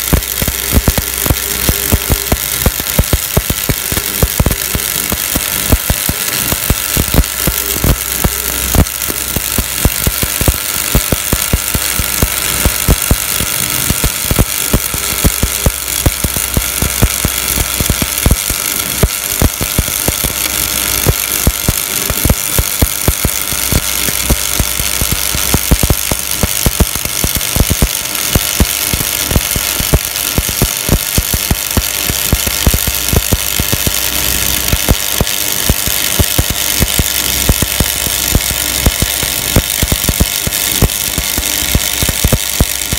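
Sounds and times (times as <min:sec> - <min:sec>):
welding arc crackling: 0:00.0 - 0:42.9.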